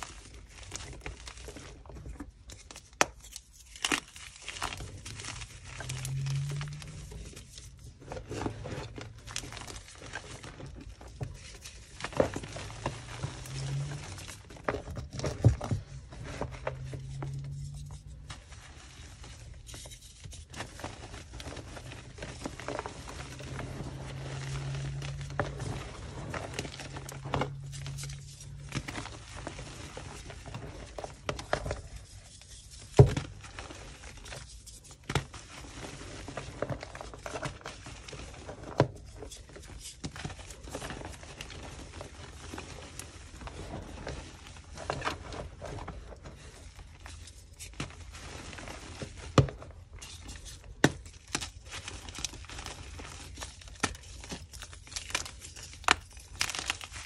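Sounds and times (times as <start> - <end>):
chalk crumbling by hand: 0.0 - 57.0.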